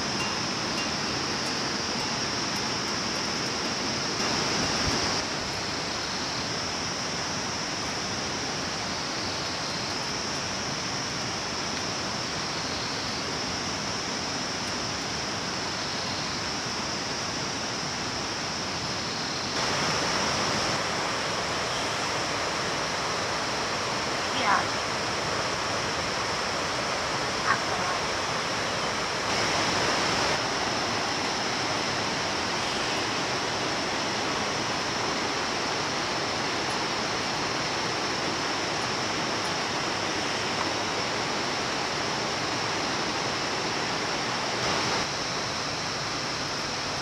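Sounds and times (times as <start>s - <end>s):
constant high whine: 0.0s - 47.0s
stream running over rocks: 0.0s - 47.0s.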